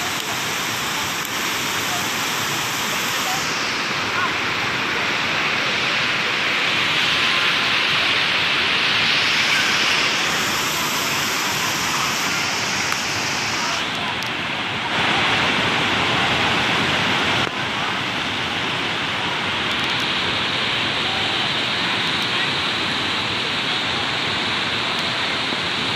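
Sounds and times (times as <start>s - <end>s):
waterfall rushing over rocks: 0.0s - 25.9s.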